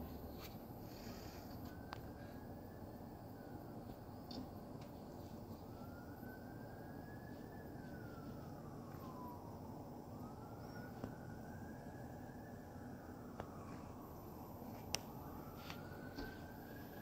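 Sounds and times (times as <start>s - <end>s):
distant siren wailing: 0.0s - 17.0s.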